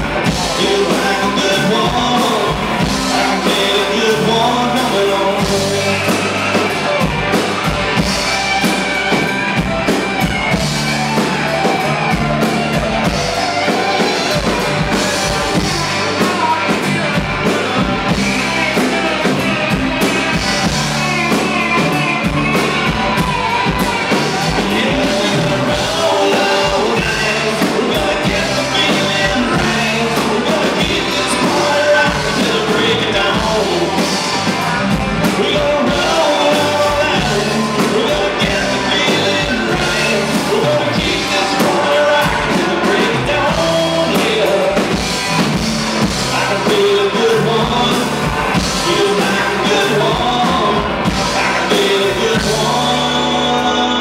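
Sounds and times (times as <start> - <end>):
drum kit: 0.0 - 54.0
electric guitars: 0.0 - 54.0
person singing lead vocal: 0.0 - 54.0.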